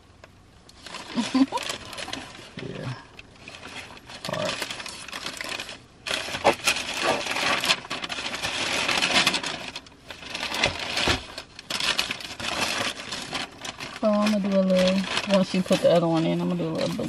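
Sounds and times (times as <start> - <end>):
tissue paper rustling and crinkling: 0.8 - 17.0.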